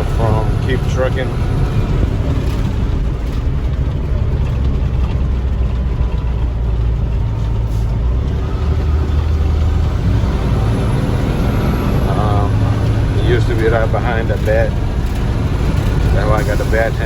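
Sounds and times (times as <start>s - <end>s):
road noise: 0.0s - 17.0s
truck engine drone: 0.0s - 17.0s.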